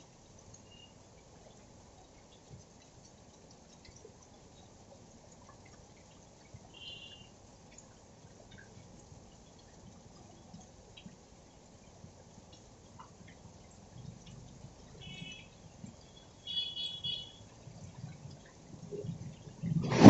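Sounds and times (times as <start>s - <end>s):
drips and patters: 0.0s - 20.0s.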